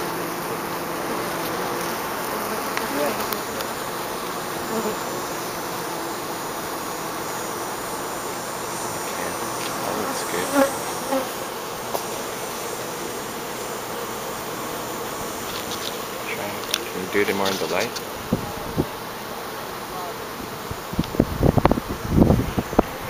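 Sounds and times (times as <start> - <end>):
honey bees humming: 0.0 - 23.0
loud bee buzzes: 0.0 - 23.0.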